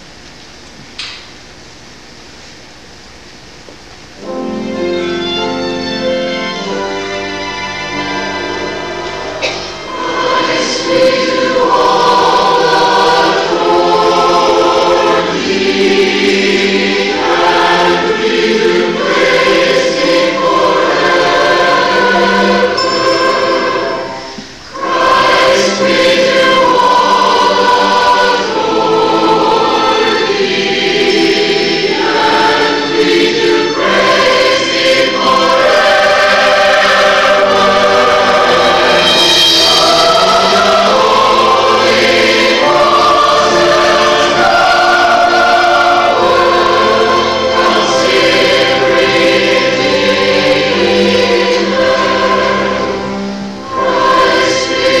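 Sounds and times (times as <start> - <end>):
church choir singing: 4.2 - 55.0
strings: 4.2 - 55.0
timpani: 5.7 - 55.0.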